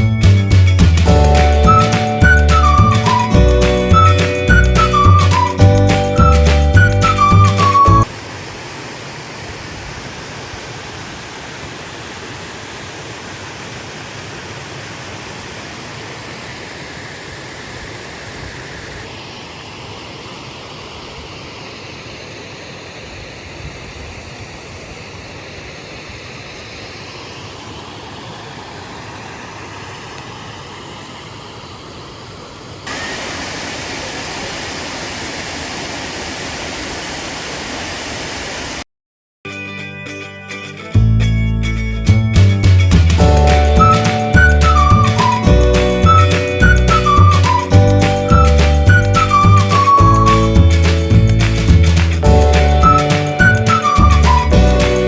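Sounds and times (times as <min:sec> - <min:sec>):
stream water rushing: 0:01.0 - 0:38.8, 0:43.2 - 0:55.0.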